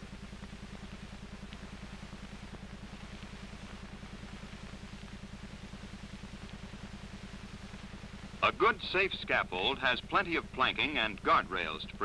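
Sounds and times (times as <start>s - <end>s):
pulsing low hum: 0.0s - 12.0s.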